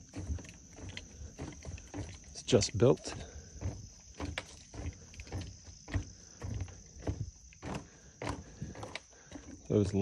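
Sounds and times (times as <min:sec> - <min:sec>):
footsteps on walkway deck: 0:00.0 - 0:10.0.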